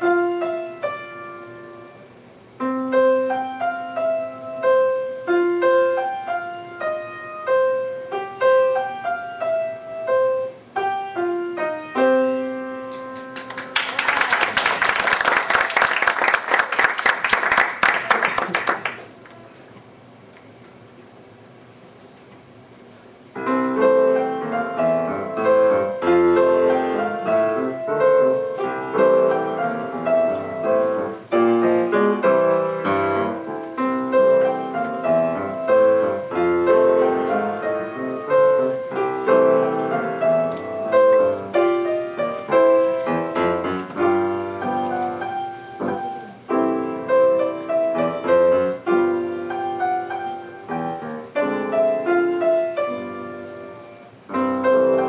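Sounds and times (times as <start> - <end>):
solo piano piece: 0.0 - 13.9, 23.3 - 55.0.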